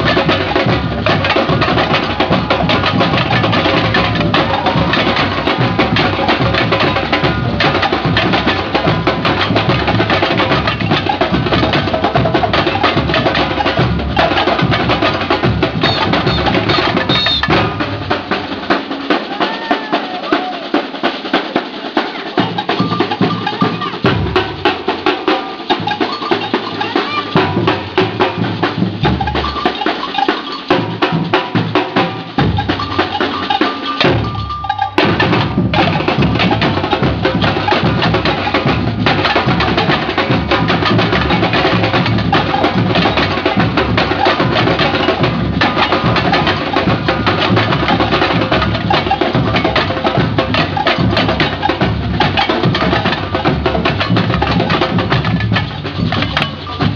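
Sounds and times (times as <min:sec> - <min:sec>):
large low drums: 0:00.0 - 0:21.0, 0:22.3 - 0:29.8, 0:30.7 - 0:56.9
sharp high percussion: 0:00.0 - 0:56.9
snare drums: 0:00.0 - 0:56.9.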